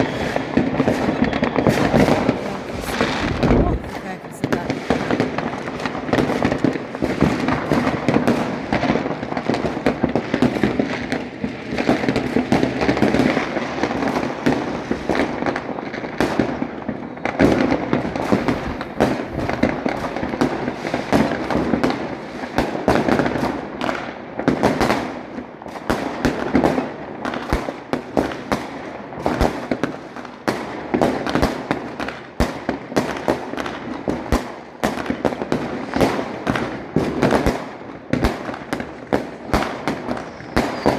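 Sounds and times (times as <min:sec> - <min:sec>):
fireworks crackling and exploding: 0:00.0 - 0:40.9.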